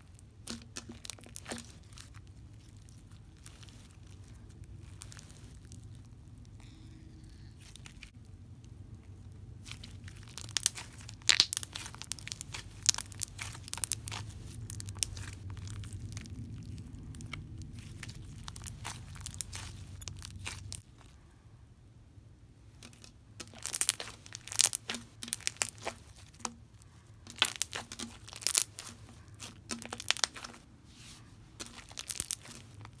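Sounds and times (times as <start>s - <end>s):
slime crackling and popping: 0.0s - 21.1s, 22.7s - 30.6s, 31.5s - 33.0s.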